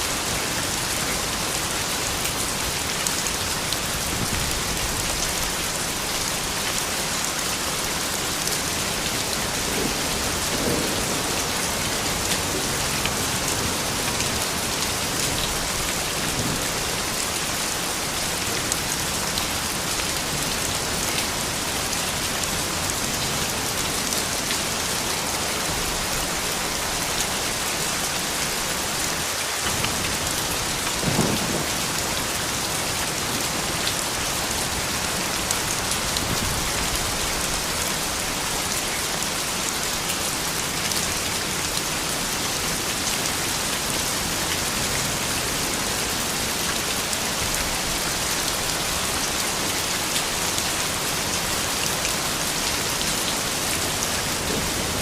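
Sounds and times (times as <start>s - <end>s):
soft rain pattering: 0.0s - 55.0s.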